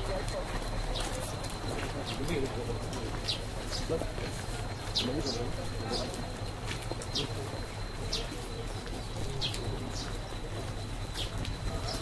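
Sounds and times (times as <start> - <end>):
small birds chirping: 0.7 - 6.3, 6.9 - 12.0.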